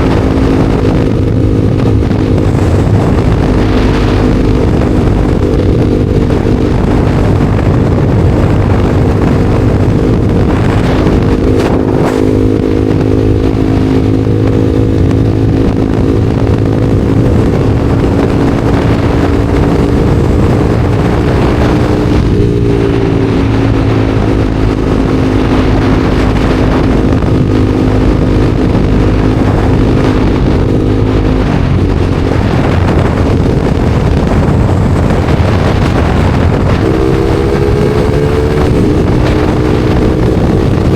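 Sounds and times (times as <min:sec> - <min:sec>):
motorcycle engine cruising: 0:00.0 - 0:40.9
wind rush over microphone: 0:00.0 - 0:40.9.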